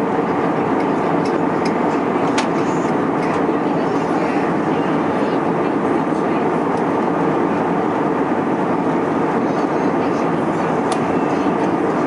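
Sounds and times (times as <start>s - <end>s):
airplane cabin rushing drone: 0.0s - 12.0s.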